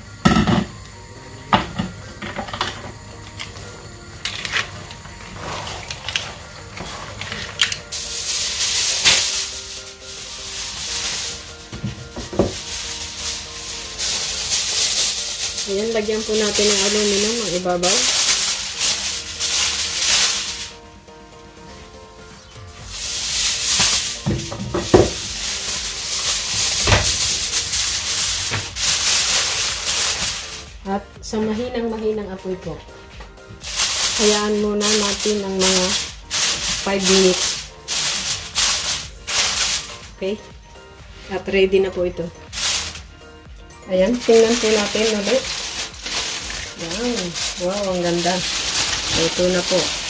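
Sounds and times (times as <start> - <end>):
aluminium foil rustling: 4.2 - 20.8, 21.7 - 31.8, 33.6 - 40.4, 42.4 - 43.1, 43.8 - 50.0.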